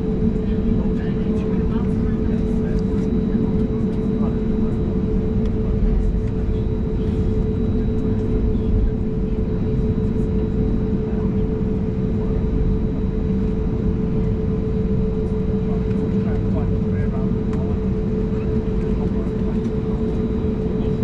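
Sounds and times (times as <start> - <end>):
jet engine cabin hum: 0.0 - 21.0.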